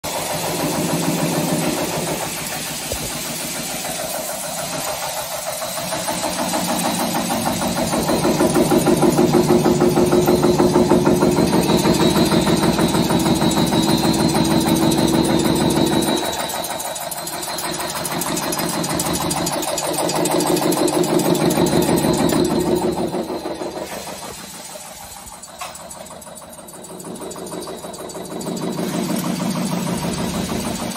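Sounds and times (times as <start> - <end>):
nail making machine clattering: 0.0 - 30.9.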